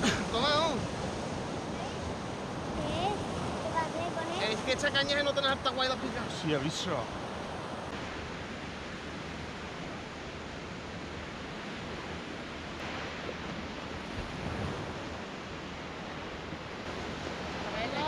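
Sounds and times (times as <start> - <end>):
surf washing onto sandy beach: 0.0 - 18.0.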